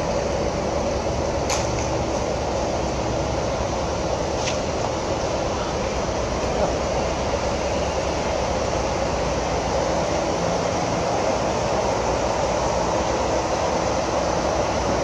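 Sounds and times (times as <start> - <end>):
diesel coach engines idling: 0.0 - 15.0.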